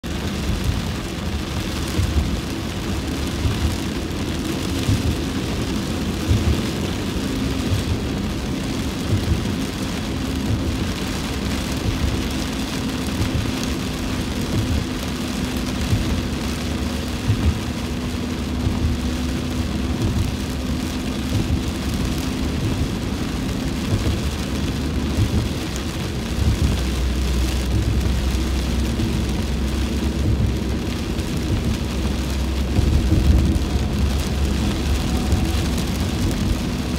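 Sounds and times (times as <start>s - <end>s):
engine hum: 0.0s - 36.9s
heavy rain on car roof: 0.0s - 36.9s
tyres on wet road: 0.0s - 36.9s.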